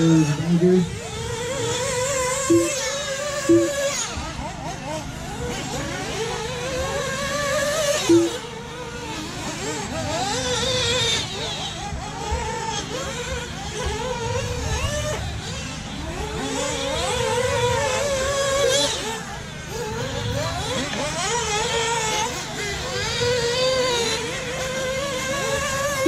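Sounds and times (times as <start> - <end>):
rc car motors whining: 0.0 - 26.0.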